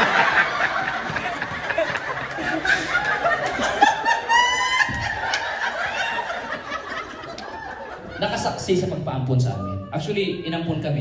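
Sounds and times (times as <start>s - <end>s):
audience laughing: 0.0s - 9.0s.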